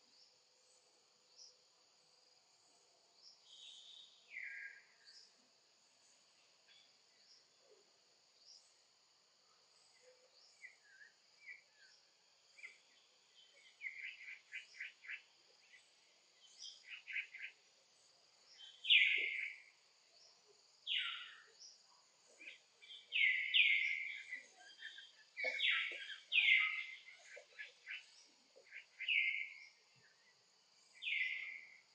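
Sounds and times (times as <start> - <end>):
insects droning: 0.0 - 31.9.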